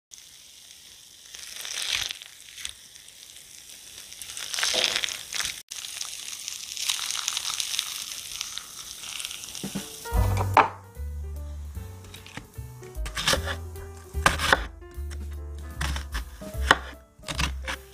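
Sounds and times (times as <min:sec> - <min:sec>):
spatula crunching crisp crust: 0:01.3 - 0:10.0, 0:12.0 - 0:17.9.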